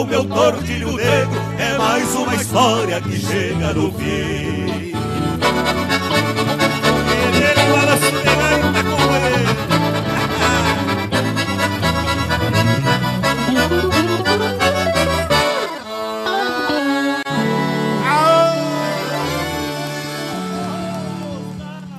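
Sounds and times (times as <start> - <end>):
accordion playing: 0.0 - 21.9.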